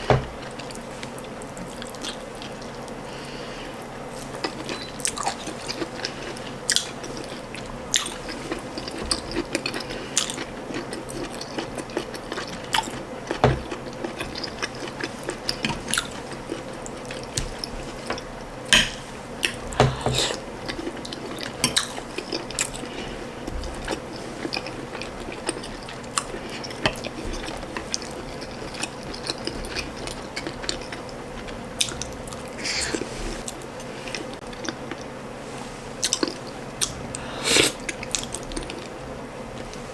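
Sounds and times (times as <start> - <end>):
chewing and mouth sounds: 0.0 - 3.0, 4.1 - 18.3, 19.4 - 35.1, 36.0 - 39.0.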